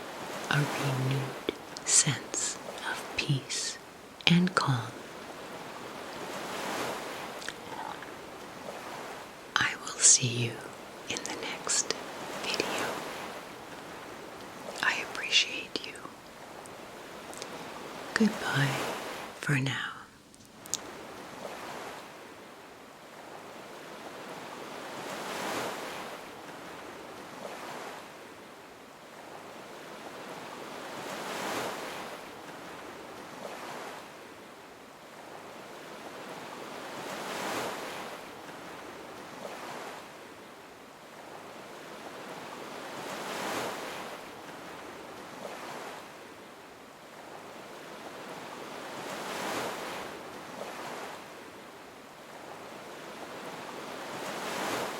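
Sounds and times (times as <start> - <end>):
ocean waves washing in: 0.0 - 54.9.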